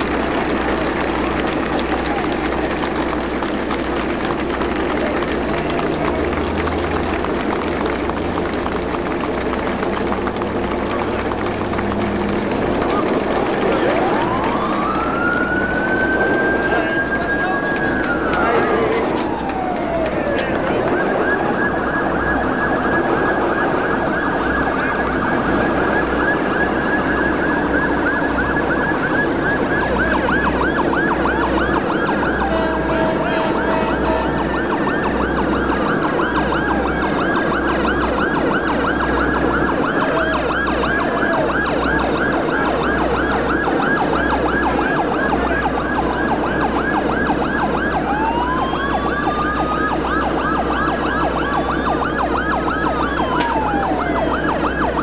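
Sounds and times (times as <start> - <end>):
boat sirens wailing: 0.0 - 55.0
rising siren glides: 0.0 - 55.0.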